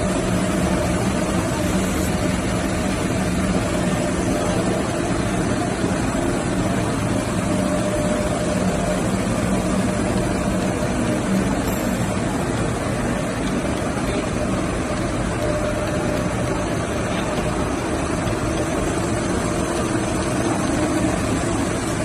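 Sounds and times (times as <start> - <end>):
textile spinning machinery drone: 0.0 - 22.0.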